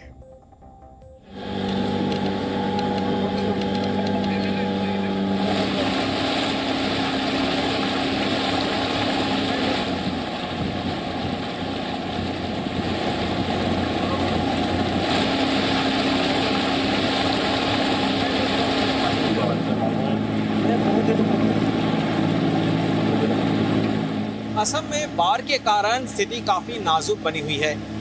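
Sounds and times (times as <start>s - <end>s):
outboard motor running: 1.3s - 28.0s
water rushing along hull: 1.3s - 28.0s
wind: 1.3s - 28.0s.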